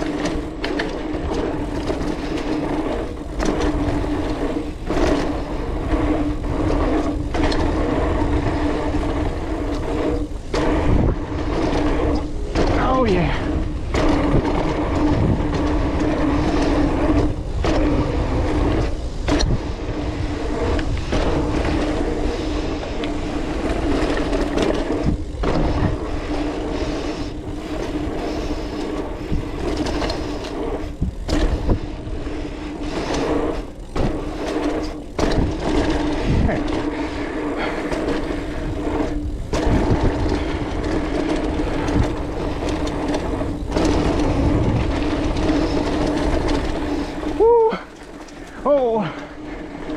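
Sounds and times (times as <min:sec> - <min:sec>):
bike rattles and knocks: 0:00.0 - 0:49.9
bike tyre rumble on dirt: 0:00.0 - 0:49.9
steady hum: 0:00.0 - 0:49.9
wind noise: 0:00.0 - 0:49.9.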